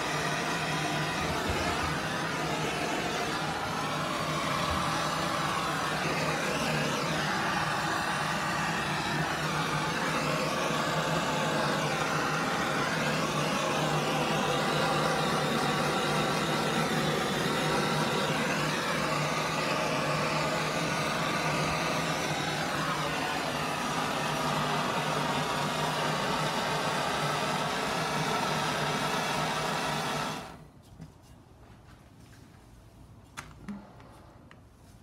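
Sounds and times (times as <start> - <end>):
propane torch hissing: 0.0 - 30.7.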